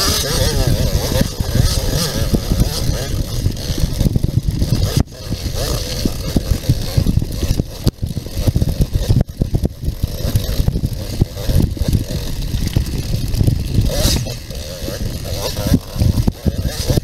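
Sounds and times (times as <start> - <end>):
bike bouncing over rocks: 0.0 - 17.0
dirt bike engine revving: 0.0 - 17.0.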